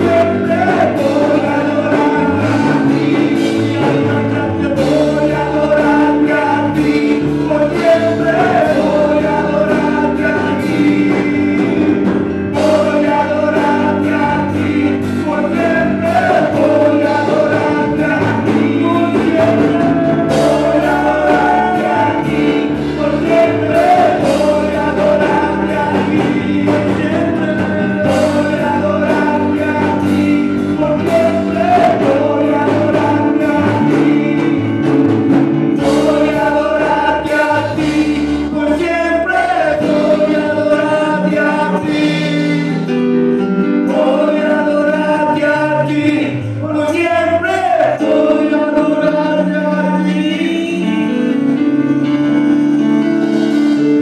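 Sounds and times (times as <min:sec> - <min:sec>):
electronic keyboard chords: 0:00.0 - 0:54.0
man singing: 0:00.0 - 0:54.0.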